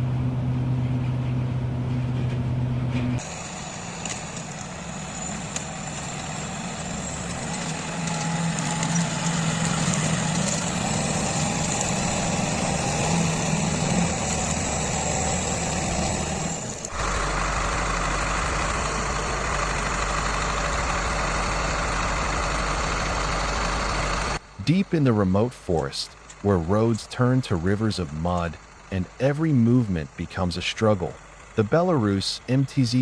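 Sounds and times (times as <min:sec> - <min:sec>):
engine deep hum: 0:00.0 - 0:33.0
heavy diesel machinery running: 0:00.0 - 0:33.0.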